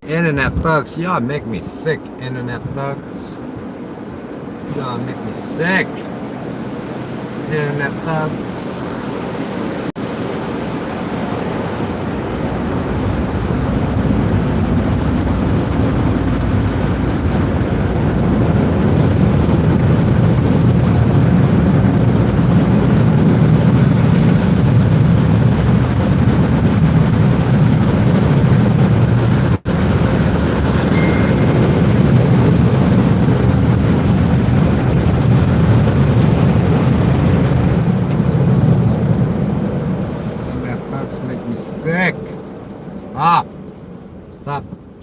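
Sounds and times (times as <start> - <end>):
car wash rushing: 0.0 - 43.4.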